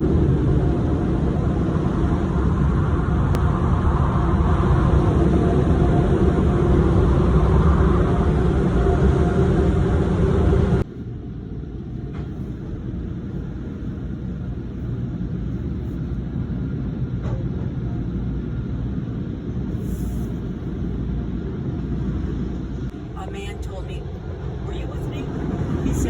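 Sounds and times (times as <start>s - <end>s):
car and car-wash machinery rumble: 0.0s - 26.0s.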